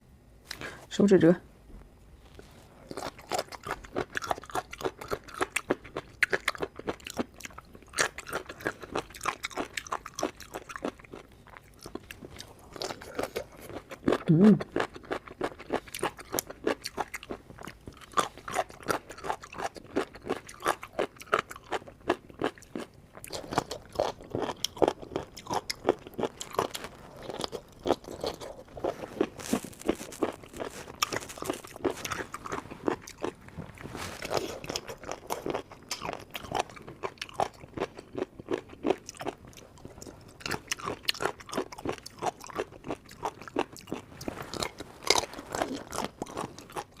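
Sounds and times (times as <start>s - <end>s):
person chewing crunchy food: 2.3s - 47.0s.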